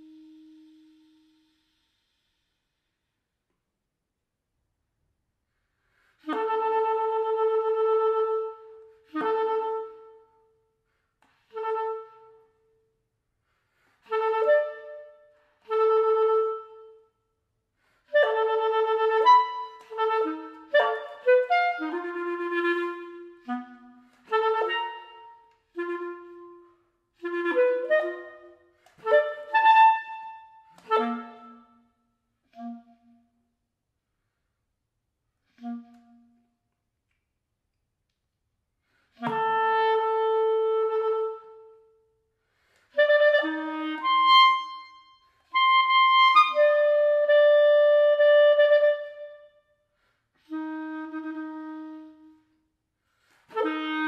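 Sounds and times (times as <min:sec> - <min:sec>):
solo clarinet playing: 0:00.0 - 0:02.8, 0:06.2 - 0:10.8, 0:11.4 - 0:12.8, 0:13.8 - 0:17.2, 0:17.8 - 0:33.6, 0:35.4 - 0:36.7, 0:39.1 - 0:42.2, 0:42.9 - 0:54.0.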